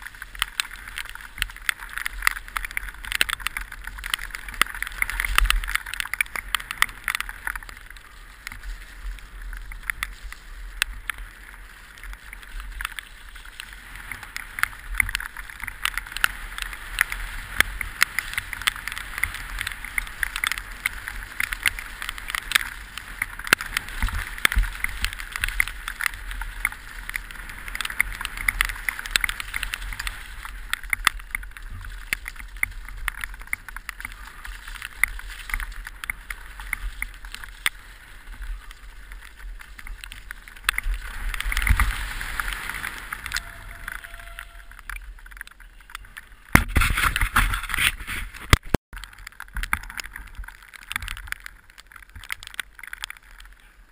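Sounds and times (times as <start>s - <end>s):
bike rattling over rocks: 0.0s - 53.9s
wind rumble on microphone: 0.0s - 53.9s.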